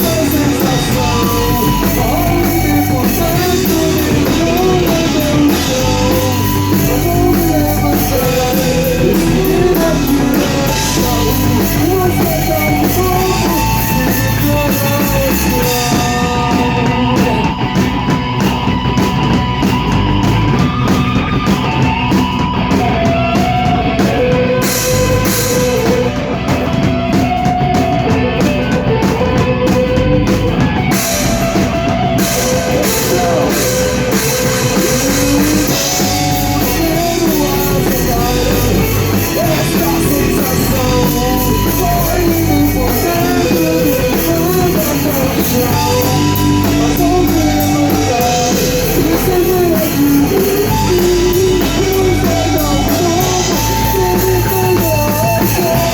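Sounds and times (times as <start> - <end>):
bass guitar: 0.0 - 55.9
distorted guitar: 0.0 - 55.9
drum kit: 0.0 - 55.9
person singing: 0.0 - 55.9.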